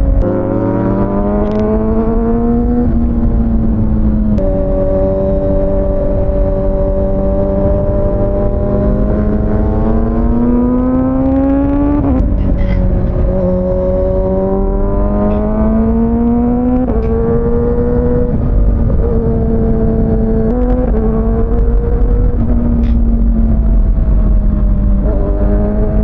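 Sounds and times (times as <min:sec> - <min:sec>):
low wind rumble: 0:00.0 - 0:26.0
motorcycle engine accelerating: 0:00.0 - 0:26.0.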